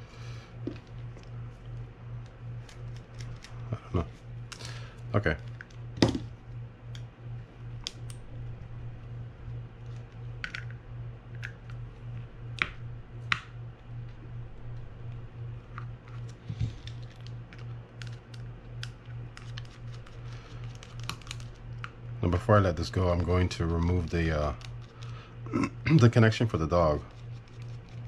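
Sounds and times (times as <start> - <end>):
pulsing low hum: 0.0 - 28.0.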